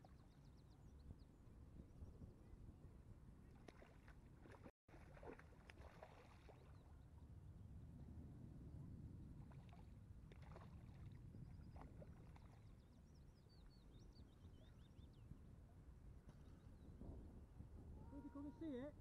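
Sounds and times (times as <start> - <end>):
wind rumble on microphone: 0.1 - 3.6, 6.5 - 19.0.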